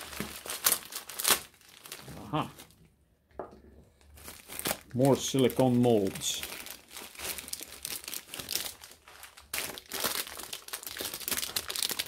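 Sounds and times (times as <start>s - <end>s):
packaging crinkling and rustling: 0.0s - 2.9s, 3.8s - 12.0s.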